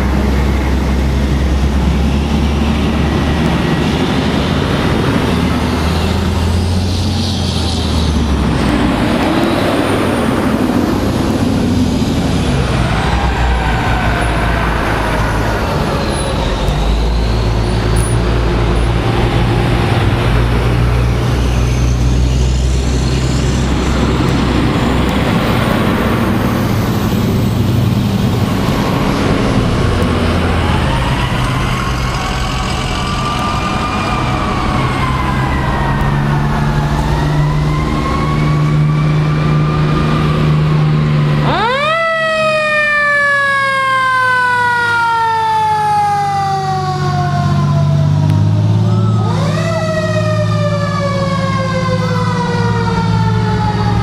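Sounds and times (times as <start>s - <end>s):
fire engine diesel engines: 0.0s - 54.0s
sirens wailing: 0.0s - 54.0s.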